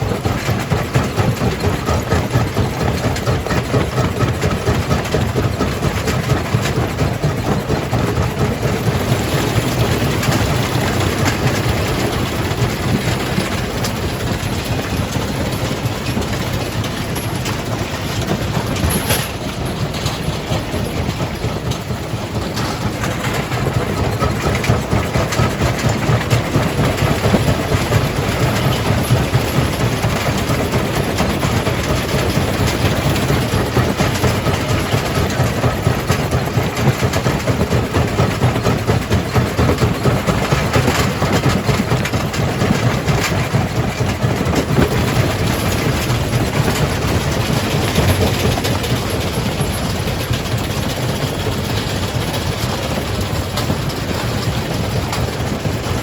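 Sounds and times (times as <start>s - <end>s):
rock crusher rumbling: 4.9s - 56.0s.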